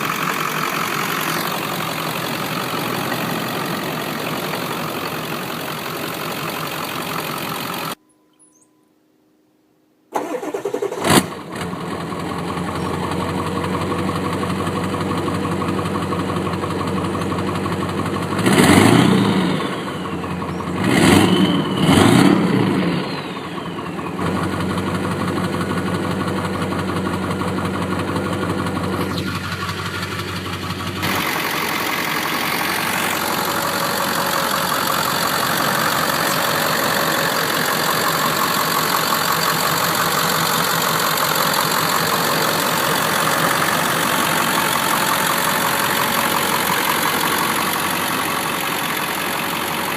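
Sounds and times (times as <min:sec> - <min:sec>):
diesel engine idling and revving: 0:00.0 - 0:08.0, 0:10.2 - 0:49.9.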